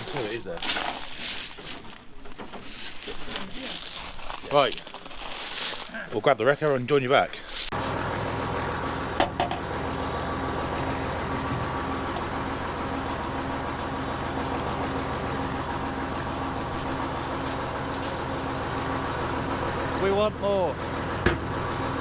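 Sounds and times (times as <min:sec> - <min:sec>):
large vehicle engine rumbling: 0:00.0 - 0:22.0.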